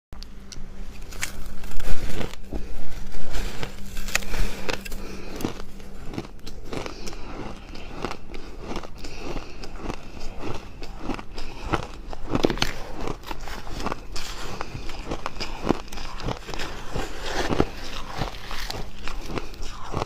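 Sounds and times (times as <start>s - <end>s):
biting and chewing frost: 0.5s - 20.0s.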